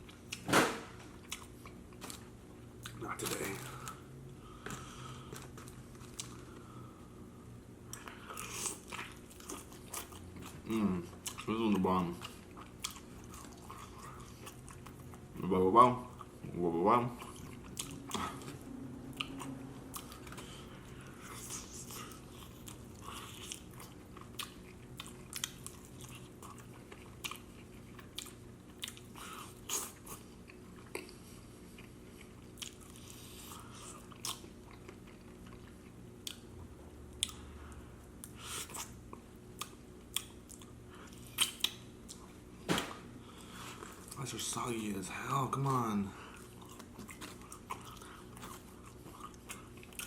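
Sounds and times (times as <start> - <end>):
person chewing chicken wings: 1.2 - 6.8, 7.8 - 15.4, 16.1 - 42.4, 46.2 - 50.0.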